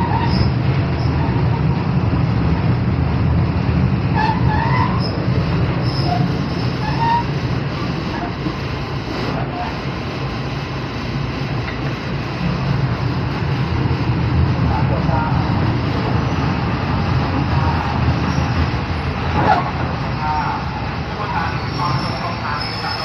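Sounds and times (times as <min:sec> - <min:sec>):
train carriage rumbling on track: 0:00.0 - 0:23.0.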